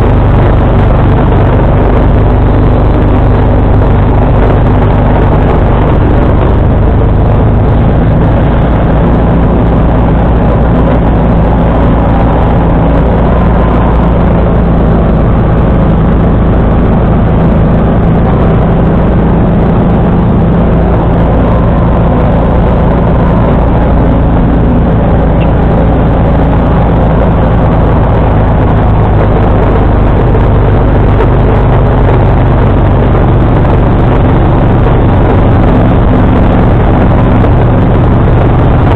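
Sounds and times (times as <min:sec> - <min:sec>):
garden tractor engine under load: 0:00.0 - 0:38.9.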